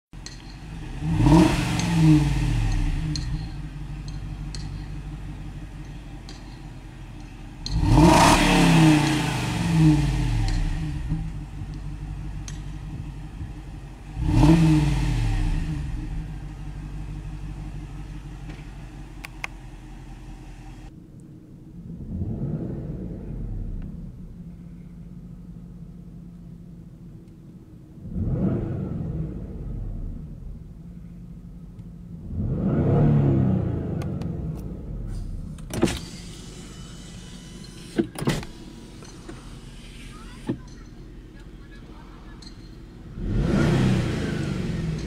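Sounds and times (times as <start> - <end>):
car engine idling and revving: 0.1 - 45.0.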